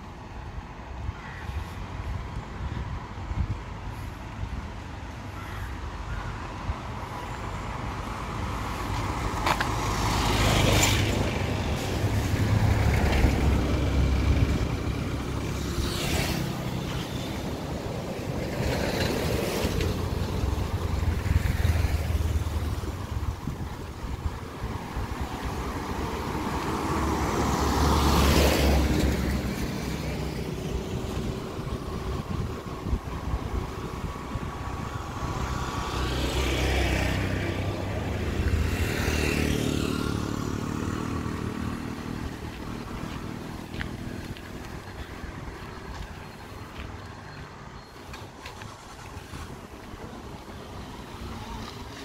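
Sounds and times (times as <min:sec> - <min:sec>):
vehicles passing by: 0:00.0 - 0:52.0.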